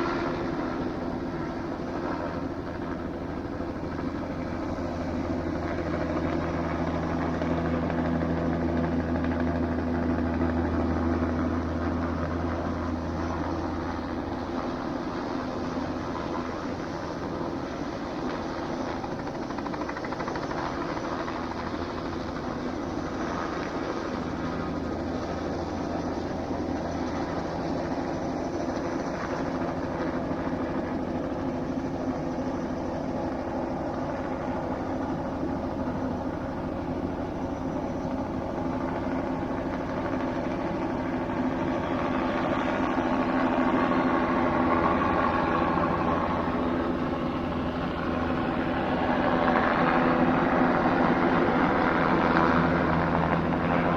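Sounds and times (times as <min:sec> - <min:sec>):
helicopter rotor drone: 0:00.0 - 0:53.9.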